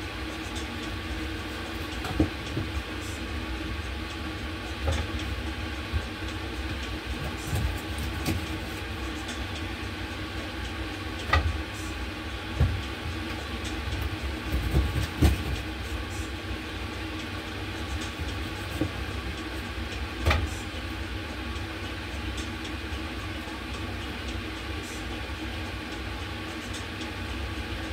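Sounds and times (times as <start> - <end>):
low rumble and hum: 0.0 - 27.9.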